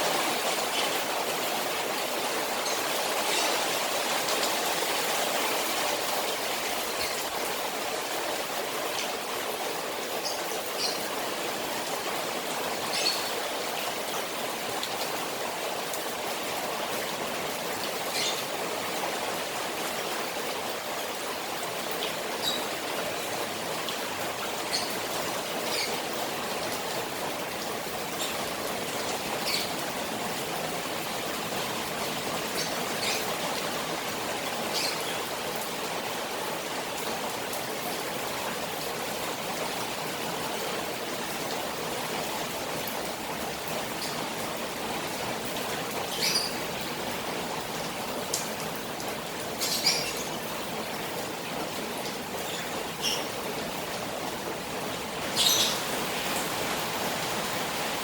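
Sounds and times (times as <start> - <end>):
rain on pond: 0.0 - 58.0
water drips and splashes: 0.0 - 58.0.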